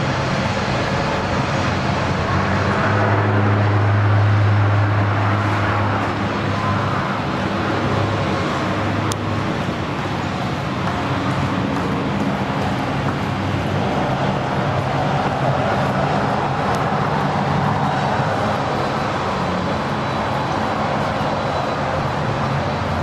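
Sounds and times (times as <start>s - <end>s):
turboprop engine drone: 0.0s - 23.0s.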